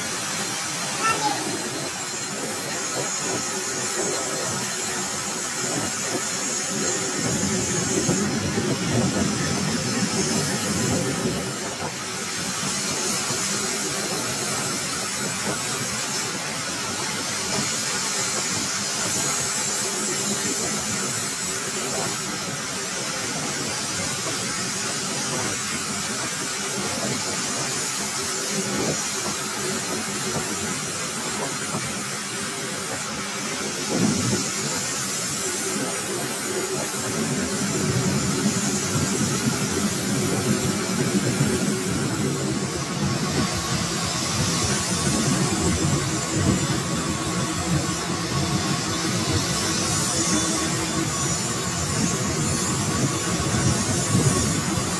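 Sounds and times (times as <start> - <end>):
lathe machining hiss: 0.0 - 54.9.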